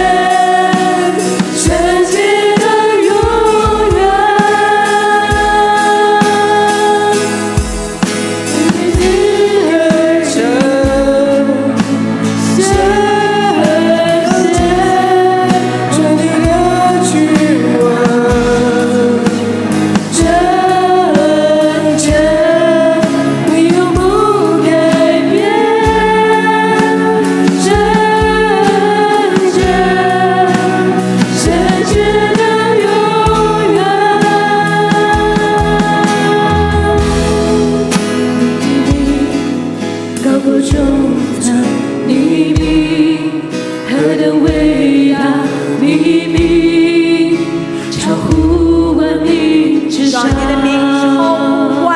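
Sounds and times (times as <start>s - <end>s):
band accompaniment: 0.0s - 45.1s, 46.1s - 51.9s
people singing: 0.0s - 51.9s.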